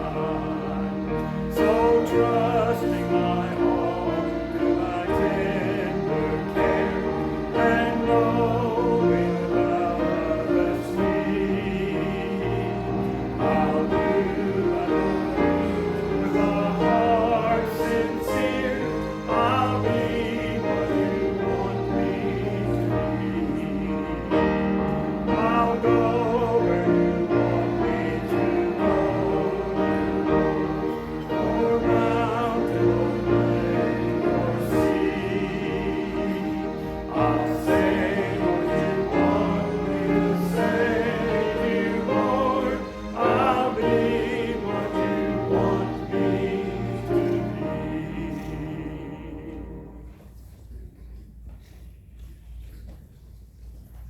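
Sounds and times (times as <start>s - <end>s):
instrumental accompaniment: 0.0s - 50.2s
group singing a hymn: 0.0s - 50.4s.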